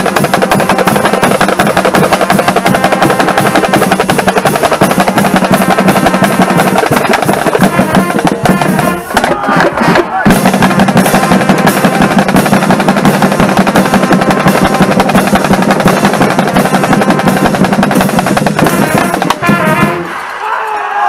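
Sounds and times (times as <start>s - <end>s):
marching drumline playing: 0.0s - 20.4s.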